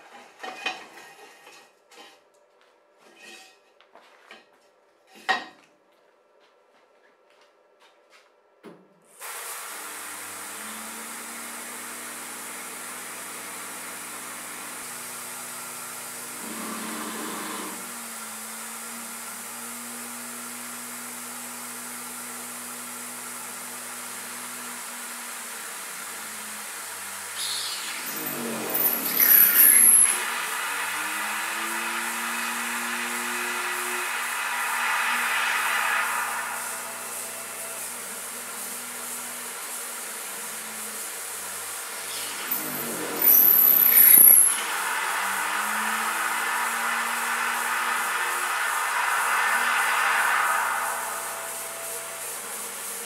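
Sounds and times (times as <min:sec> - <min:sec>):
mill spindle motor humming: 0:09.7 - 0:53.0.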